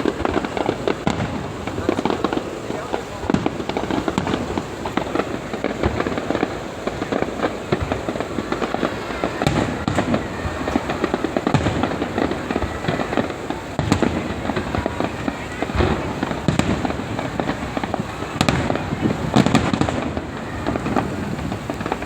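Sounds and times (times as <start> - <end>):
fireworks blasts: 0.0 - 22.0
fireworks crackling: 0.0 - 22.0.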